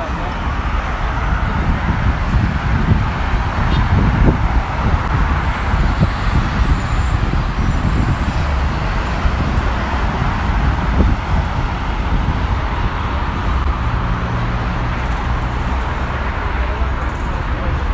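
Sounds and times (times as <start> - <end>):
city street traffic: 0.0 - 17.9.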